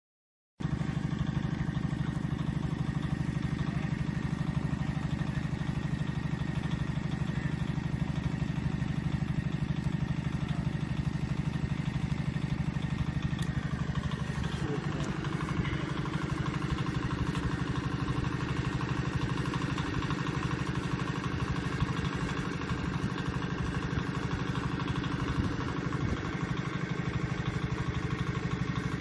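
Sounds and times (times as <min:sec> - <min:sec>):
engine idling with fast throb: 0:00.6 - 0:29.0.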